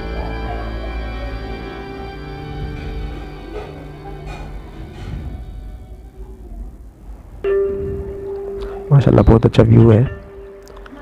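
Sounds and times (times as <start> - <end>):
steady deep bass: 0.0 - 9.4
music of long held notes: 0.0 - 11.0.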